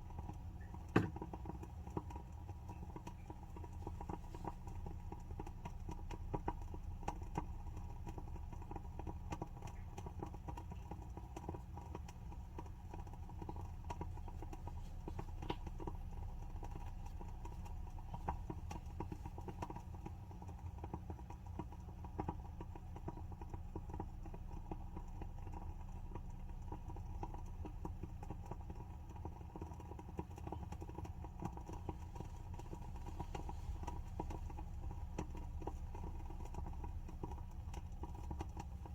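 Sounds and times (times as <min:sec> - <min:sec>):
candle wick crackling: 0:00.0 - 0:38.9
low steady hum: 0:00.0 - 0:38.9.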